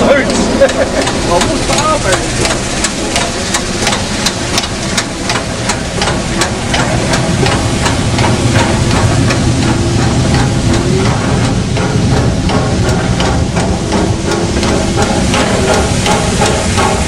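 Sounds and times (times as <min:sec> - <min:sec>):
steam locomotive beat: 0:00.0 - 0:17.0
hiss of steam: 0:00.4 - 0:17.0
low hum: 0:02.2 - 0:17.0.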